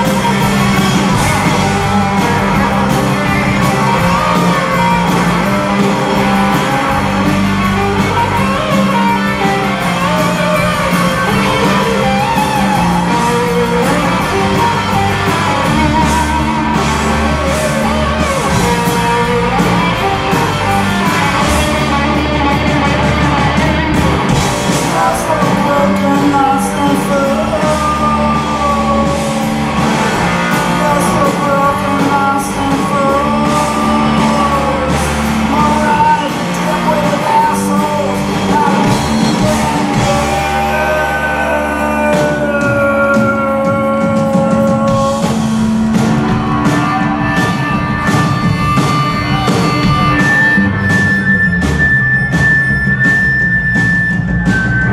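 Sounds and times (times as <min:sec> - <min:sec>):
man singing: 0:00.0 - 0:23.6, 0:24.7 - 0:50.5
rock band playing live: 0:00.0 - 0:54.9.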